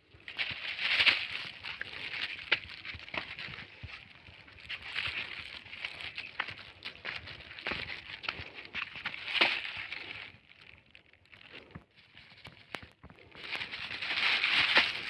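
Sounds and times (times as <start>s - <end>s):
plastic litter crackling: 0.0s - 15.0s.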